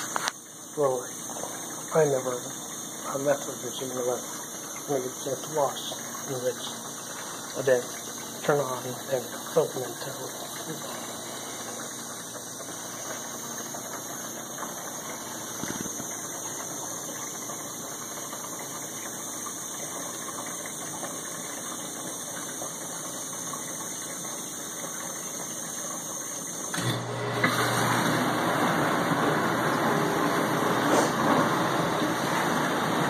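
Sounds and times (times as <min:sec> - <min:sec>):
dishwasher water rushing: 0:00.0 - 0:33.0.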